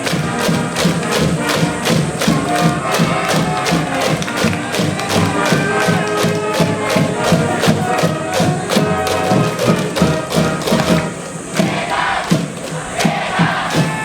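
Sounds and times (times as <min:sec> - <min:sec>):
brass band playing: 0:00.0 - 0:14.0
steady drum beat: 0:00.0 - 0:14.0.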